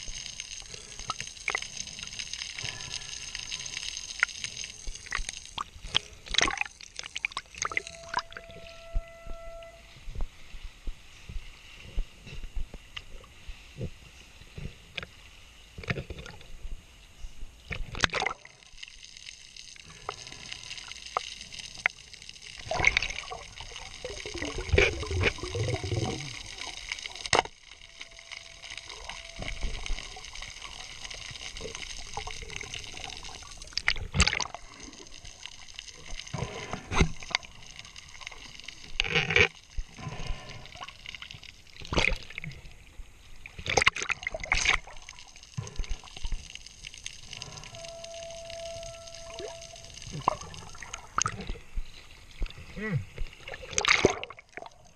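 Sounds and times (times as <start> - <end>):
muffled underwater hiss: 0.0 - 9.1, 9.9 - 54.9
water sloshing and splashing: 4.9 - 13.8, 19.8 - 54.9.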